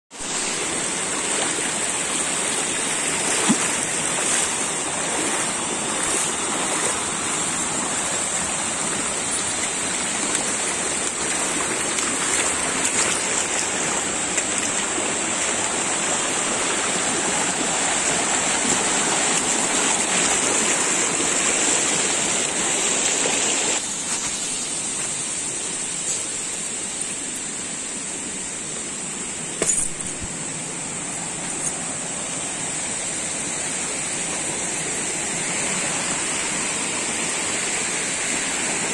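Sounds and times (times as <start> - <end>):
stream rushing over stones: 0.1 - 38.9.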